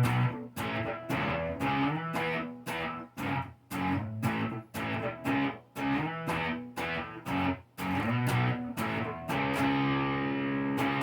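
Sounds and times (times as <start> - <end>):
electric guitar choppy chords: 0.0 - 11.0.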